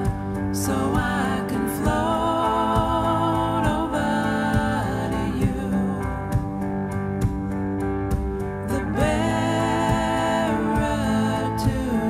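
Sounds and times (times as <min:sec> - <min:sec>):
guitar-led music: 0:00.0 - 0:12.0.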